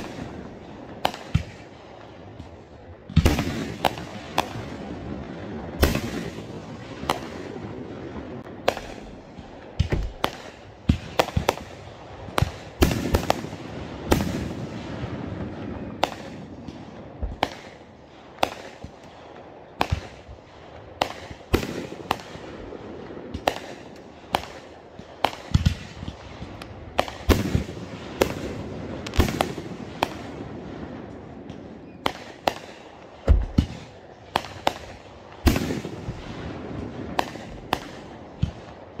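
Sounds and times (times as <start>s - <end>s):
fireworks bangs with echo: 0.0s - 39.0s.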